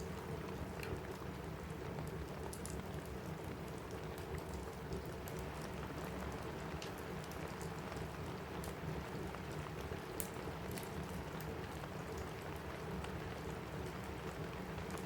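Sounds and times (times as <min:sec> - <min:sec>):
fireplace crackling: 0:00.0 - 0:15.0
rain pattering on a roof: 0:00.0 - 0:15.0.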